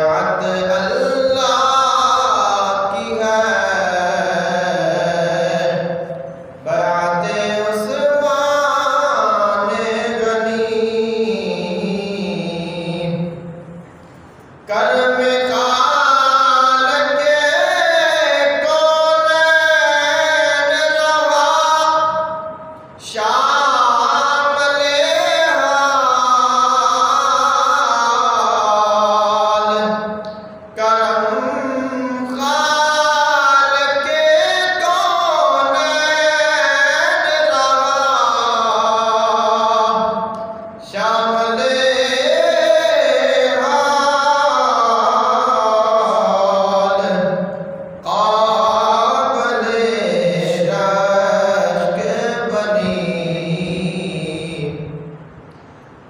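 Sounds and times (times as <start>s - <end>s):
man singing unaccompanied: 0.0s - 13.6s, 14.7s - 55.1s
man chanting into a microphone: 0.0s - 13.8s, 14.6s - 55.2s.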